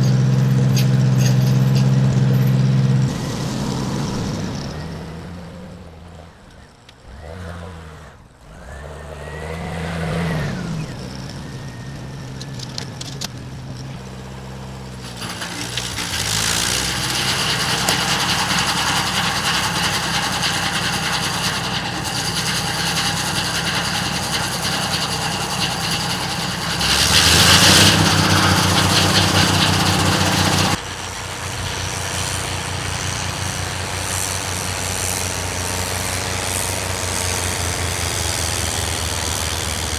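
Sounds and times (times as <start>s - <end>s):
snow rushing through snowblower: 0.0s - 39.9s
snowblower engine running: 0.0s - 39.9s.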